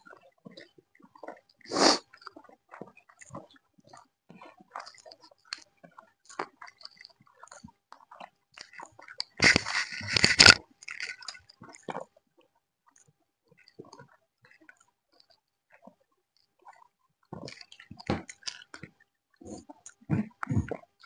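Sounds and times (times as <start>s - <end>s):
wet chewing and smacking: 0.0s - 21.0s.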